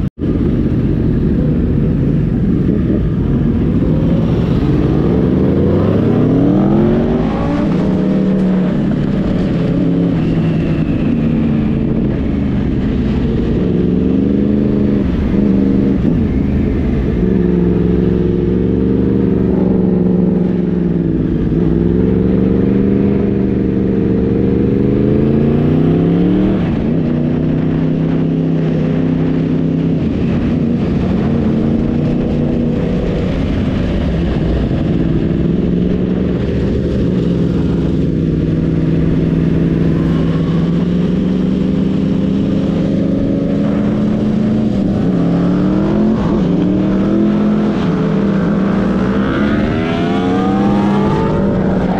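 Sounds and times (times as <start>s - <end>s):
motorcycle engine accelerating: 0.0s - 51.9s
wind rushing over microphone: 0.0s - 51.9s.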